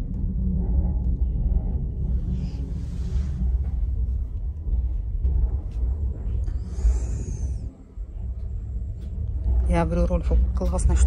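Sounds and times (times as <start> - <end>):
train carriage rumbling: 0.0 - 11.0.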